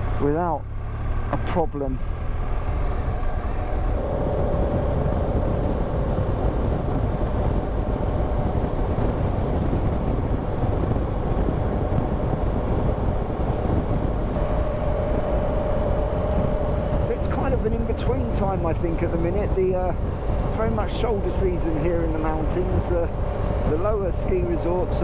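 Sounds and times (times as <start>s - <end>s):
motorcycle engine running: 0.0s - 25.0s
wind and road rush: 0.0s - 25.0s
faint steady whine: 2.7s - 25.0s.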